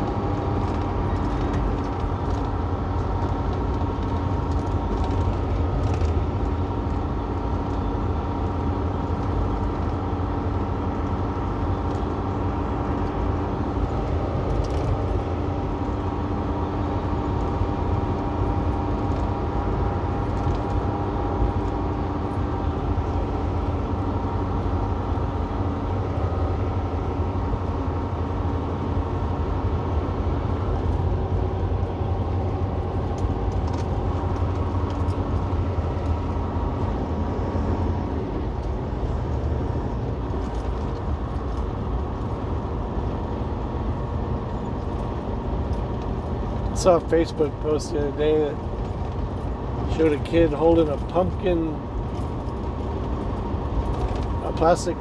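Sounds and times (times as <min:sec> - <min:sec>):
truck engine drone in cab: 0:00.0 - 0:55.0.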